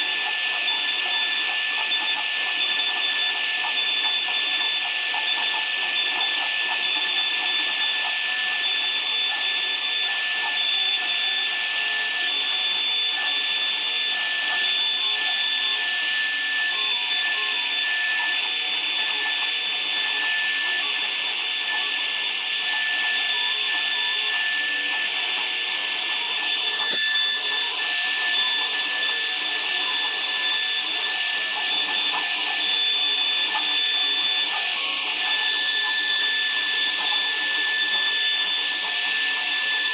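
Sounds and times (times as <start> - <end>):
woodworking power tool running: 0.0 - 39.9.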